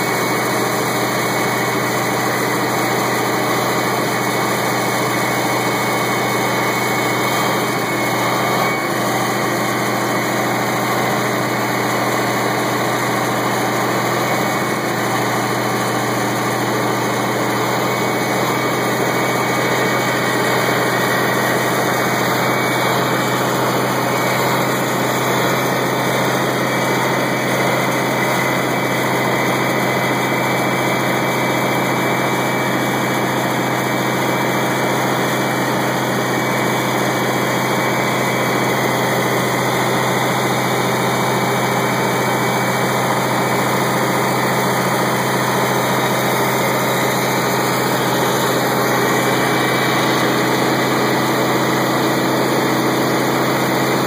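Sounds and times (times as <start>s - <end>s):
diesel generator engine running: 0.0s - 54.0s.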